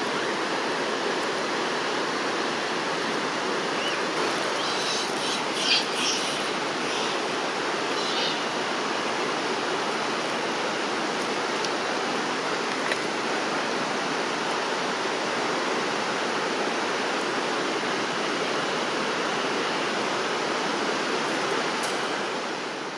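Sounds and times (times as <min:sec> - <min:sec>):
mountain stream flowing: 0:00.0 - 0:22.9.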